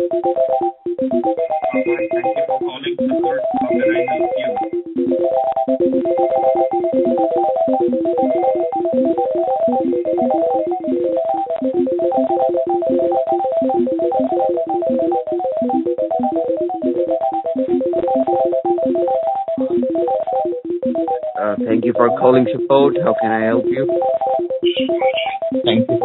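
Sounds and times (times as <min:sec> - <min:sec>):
synthesized beep notes: 0:00.0 - 0:26.0.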